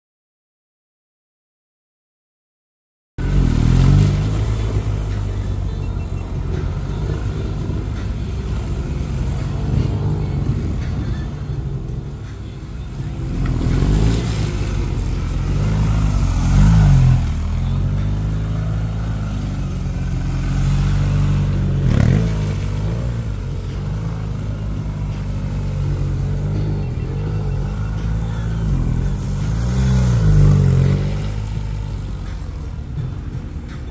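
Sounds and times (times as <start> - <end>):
motorcycle engines revving: 3.2 - 33.9.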